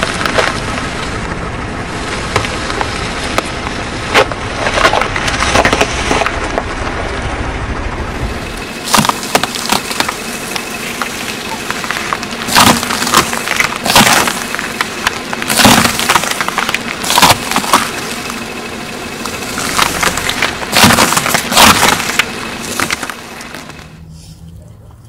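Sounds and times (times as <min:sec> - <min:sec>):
apples crunching under tyre: 0:00.0 - 0:07.2, 0:08.0 - 0:24.0.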